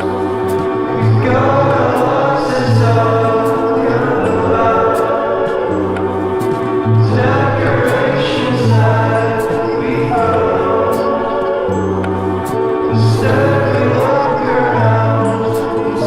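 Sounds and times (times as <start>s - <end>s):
choral singing: 0.0s - 16.0s
steady bass line: 0.0s - 16.0s.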